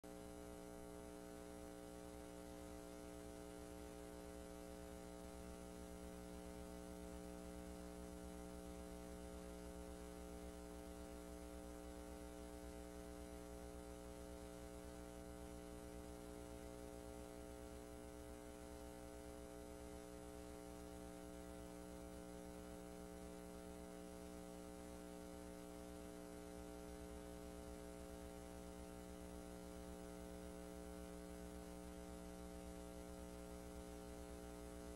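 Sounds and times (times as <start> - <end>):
steady electrical hum: 0.0 - 34.9.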